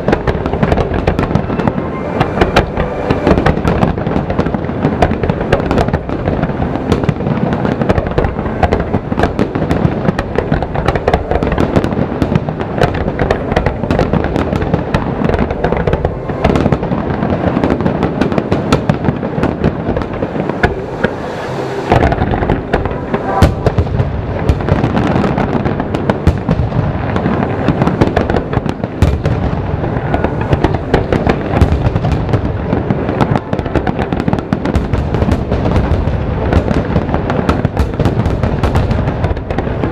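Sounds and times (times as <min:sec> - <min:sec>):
fireworks booms and crackles: 0:00.0 - 0:39.9.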